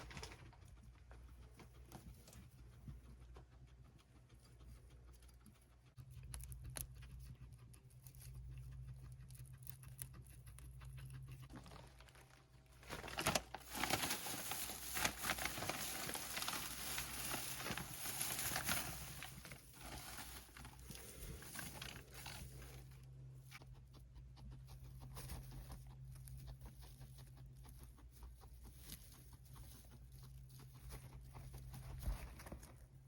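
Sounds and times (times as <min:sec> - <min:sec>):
guinea pigs rustling: 0:00.0 - 0:33.0.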